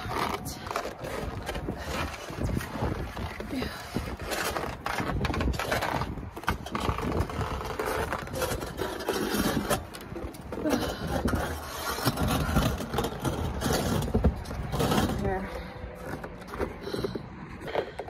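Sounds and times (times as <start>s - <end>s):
gloved hand scraping icy snow: 0.0s - 17.1s.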